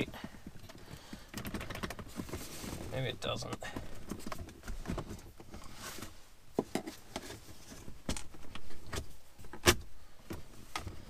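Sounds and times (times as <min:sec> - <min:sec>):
rustling: 0:00.1 - 0:11.0.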